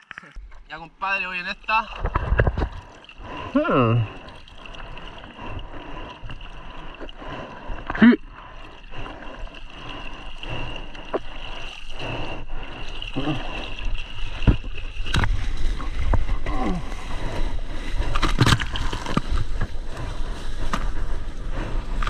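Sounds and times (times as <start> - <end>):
sea water splashing: 0.0 - 22.0.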